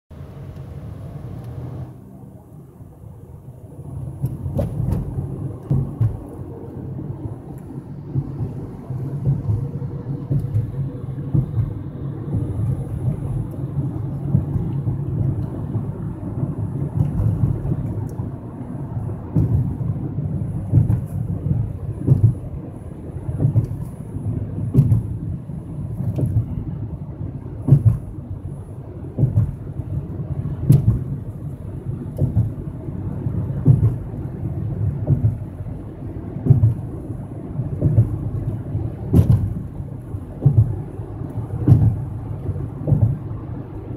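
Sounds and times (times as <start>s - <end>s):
road and tyre noise in car: 0.0s - 43.9s
heavy tyre thumps: 4.2s - 6.4s, 8.1s - 26.8s, 27.6s - 28.5s, 29.1s - 43.9s.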